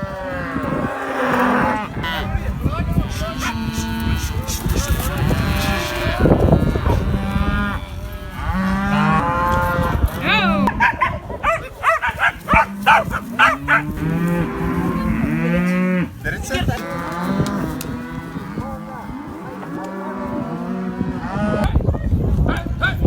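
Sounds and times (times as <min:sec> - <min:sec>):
cattle mooing: 0:00.0 - 0:21.8.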